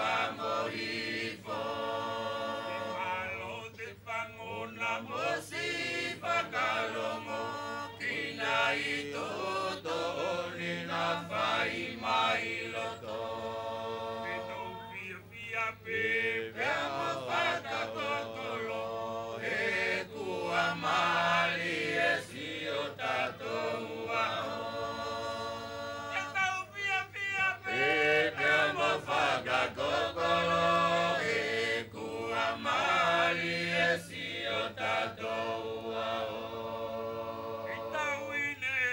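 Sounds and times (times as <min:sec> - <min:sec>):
choir singing in unison: 0:00.0 - 0:26.4, 0:27.6 - 0:38.4.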